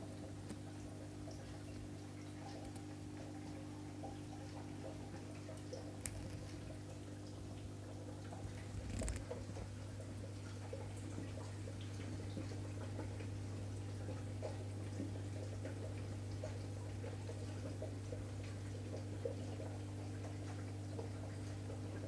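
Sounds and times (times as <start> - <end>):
aquarium equipment humming: 0.0 - 22.0
water ticks and drips: 0.0 - 22.0.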